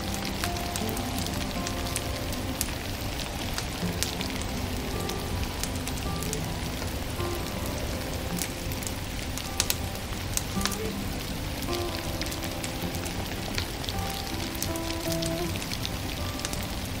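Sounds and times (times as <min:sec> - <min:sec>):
soft slow music: 0:00.0 - 0:17.0
wood fire crackling and popping: 0:00.0 - 0:17.0.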